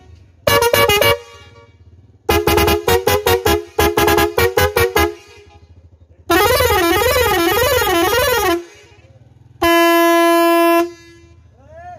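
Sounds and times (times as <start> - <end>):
musical air horns: 0.4 - 5.6, 6.3 - 11.4.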